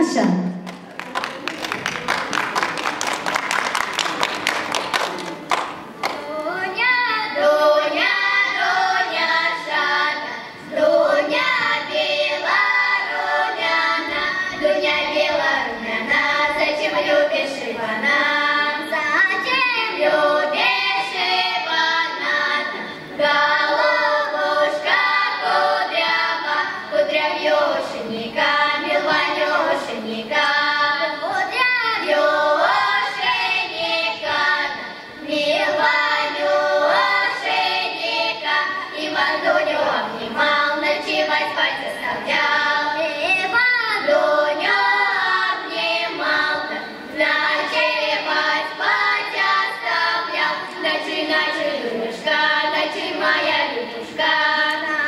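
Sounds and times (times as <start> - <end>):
girls' ensemble singing folk song: 5.5 - 55.0.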